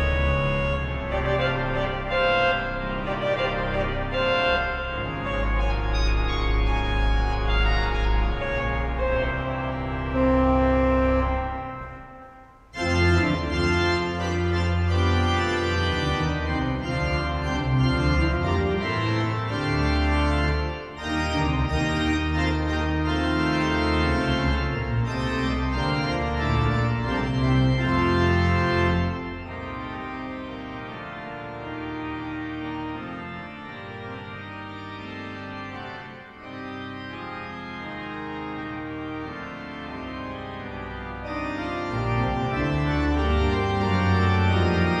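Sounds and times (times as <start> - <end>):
pipe organ chords: 0.0 - 45.0.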